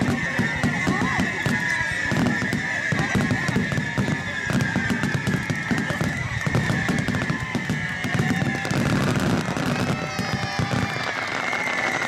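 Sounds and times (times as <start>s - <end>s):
dense crackle of pops: 0.0s - 12.0s
firework booms: 0.0s - 12.0s.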